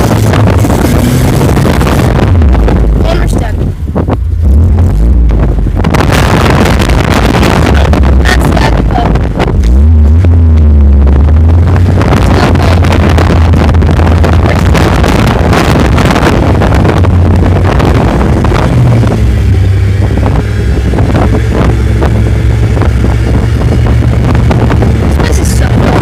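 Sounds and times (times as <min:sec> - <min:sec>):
vehicle engine droning: 0:00.0 - 0:26.0
wind buffeting: 0:00.0 - 0:26.0.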